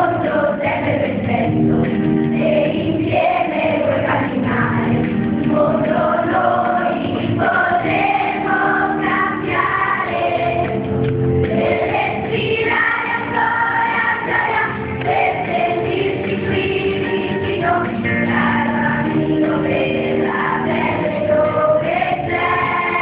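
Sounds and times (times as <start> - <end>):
children singing in chorus: 2.4 - 10.7, 11.5 - 23.0.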